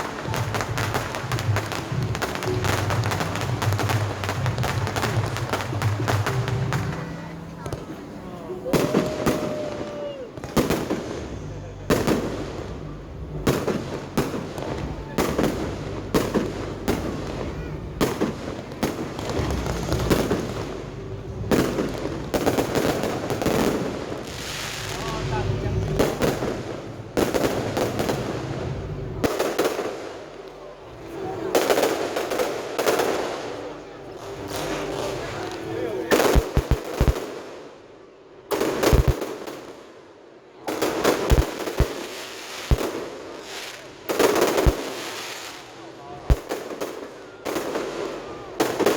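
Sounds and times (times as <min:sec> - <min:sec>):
crackling firework bangs: 0:00.0 - 0:37.8, 0:38.4 - 0:40.0, 0:40.6 - 0:48.9
fireworks bursting: 0:00.0 - 0:48.9.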